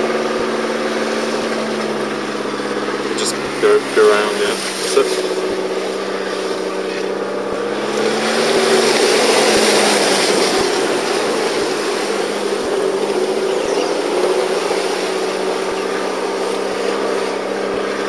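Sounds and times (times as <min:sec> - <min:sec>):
engine running under load: 0:00.0 - 0:18.0
rushing water noise: 0:00.0 - 0:18.0.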